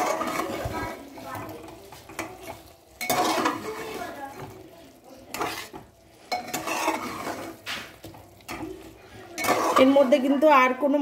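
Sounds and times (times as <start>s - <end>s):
utensil scraping a pot: 0.0s - 10.8s
chicken sizzling in a pot: 0.0s - 11.0s.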